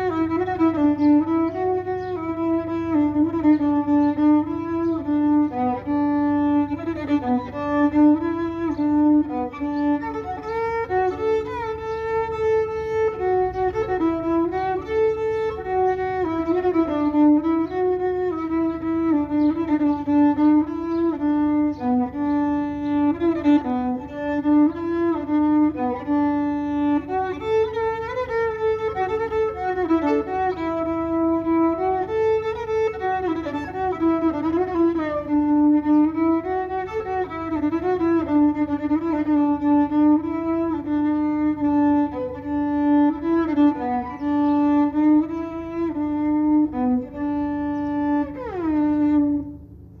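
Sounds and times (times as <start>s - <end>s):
solo violin melody: 0.0s - 50.0s.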